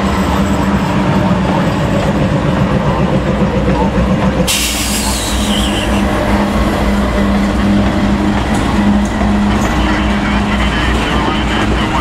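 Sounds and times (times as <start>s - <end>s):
diesel locomotives droning: 0.0s - 12.0s.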